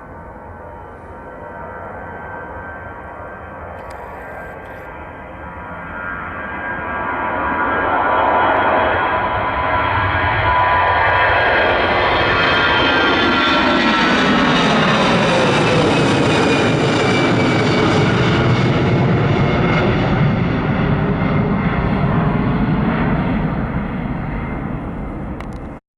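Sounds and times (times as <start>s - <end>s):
jet engines passing: 0.0s - 25.8s.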